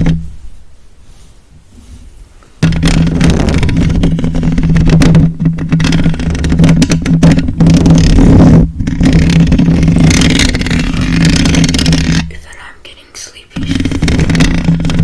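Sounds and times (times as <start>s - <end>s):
rough crackling scratching: 0.0s - 15.0s.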